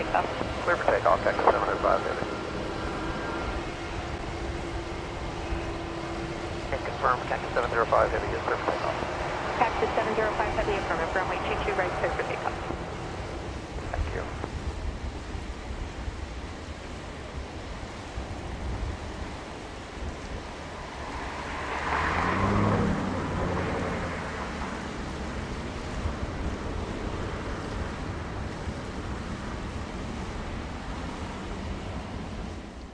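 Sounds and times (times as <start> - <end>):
jet engines at takeoff power: 0.0 - 32.9.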